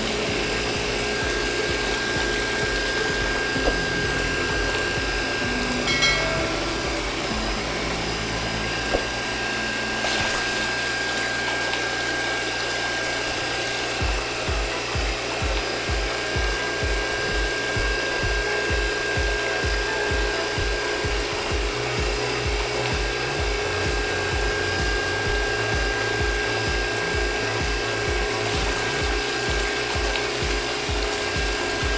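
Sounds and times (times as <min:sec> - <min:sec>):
electric water pump whining: 0:00.0 - 0:31.9
low rhythmic pulse: 0:00.0 - 0:31.9
water splashing onto mud: 0:00.0 - 0:31.9.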